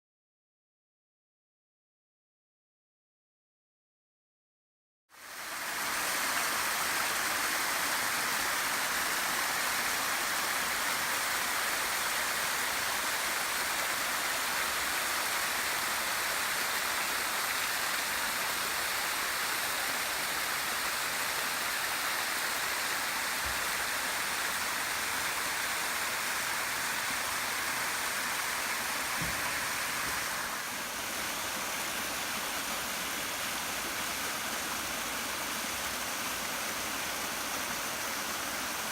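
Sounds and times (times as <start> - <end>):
waterfall pouring: 5.2 - 38.9.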